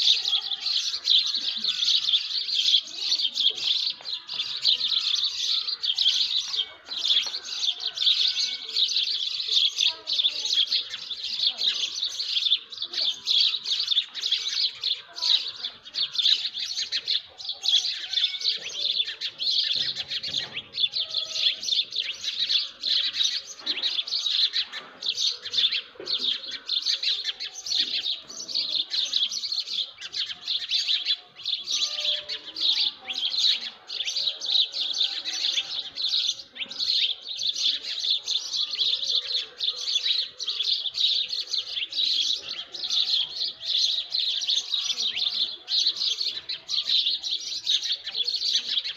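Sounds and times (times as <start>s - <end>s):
many small birds chirping: 0.0s - 48.9s.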